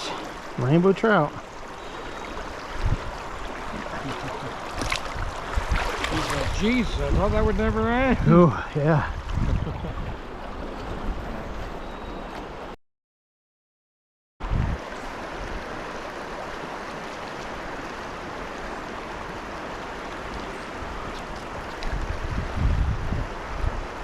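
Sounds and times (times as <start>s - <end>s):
stream water running: 0.0s - 12.8s, 14.4s - 24.0s.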